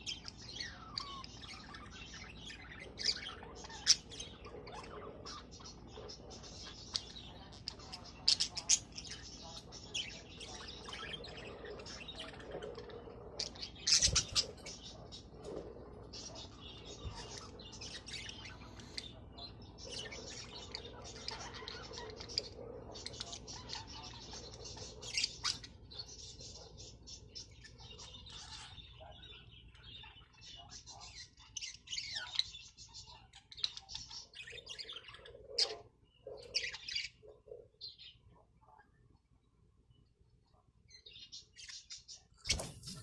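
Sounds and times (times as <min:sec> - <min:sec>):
budgerigars chattering: 0:00.0 - 0:38.2, 0:40.9 - 0:43.0.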